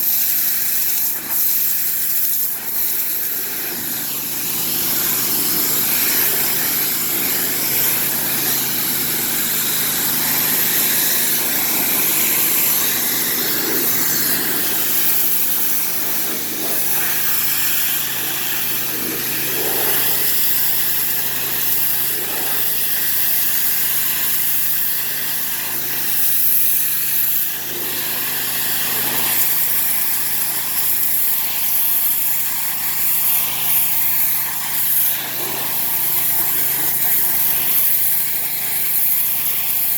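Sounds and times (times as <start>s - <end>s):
pressure washer engine hum: 0.0s - 39.9s
water spraying hiss: 0.0s - 39.9s.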